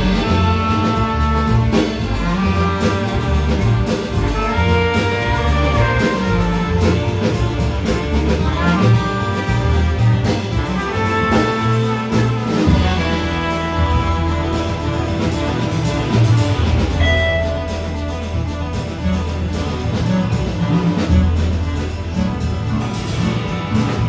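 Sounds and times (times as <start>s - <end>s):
bass clarinet: 0.0s - 24.0s
double bass line: 0.0s - 24.0s
drum kit with busy cymbals: 0.0s - 24.0s
trumpet: 0.0s - 24.0s.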